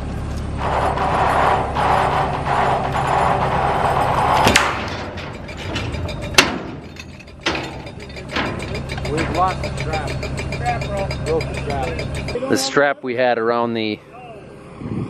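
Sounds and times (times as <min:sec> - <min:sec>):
crane engine running: 0:00.0 - 0:15.0
rough mechanical noise: 0:00.0 - 0:15.0.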